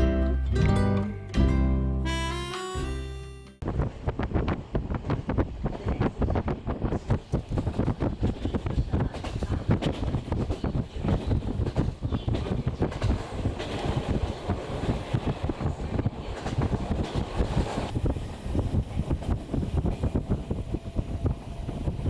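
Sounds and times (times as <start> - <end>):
wind buffeting microphone: 3.6 - 22.0.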